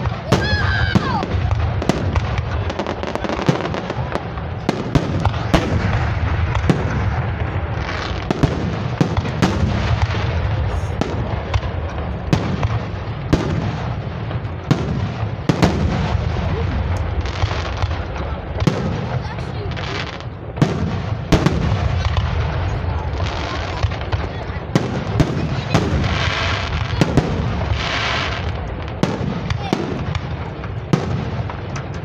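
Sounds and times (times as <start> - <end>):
fireworks bangs: 0.0 - 32.0
fireworks crackling rumble: 0.0 - 32.0.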